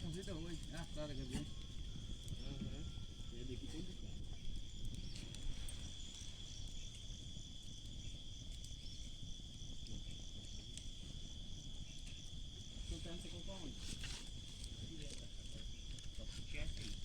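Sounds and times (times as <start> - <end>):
insects trilling: 0.0 - 17.0
pulsing high insect call: 0.0 - 17.0.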